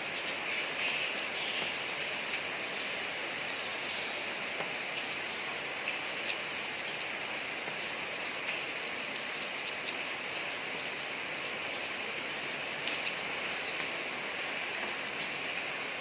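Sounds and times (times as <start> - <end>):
rain falling on street: 0.0 - 16.0.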